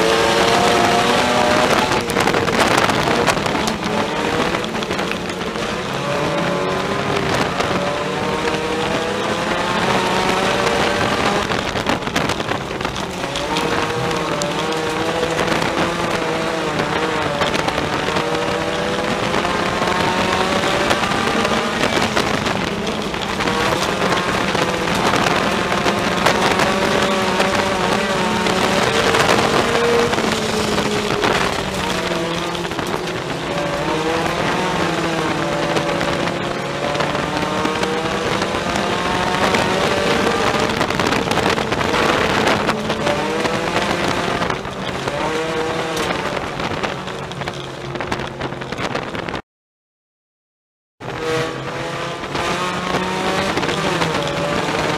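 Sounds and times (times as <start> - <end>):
race car engine revving: 0.0 - 49.4, 51.0 - 54.9
tyre and road noise: 0.0 - 49.4, 51.0 - 54.9.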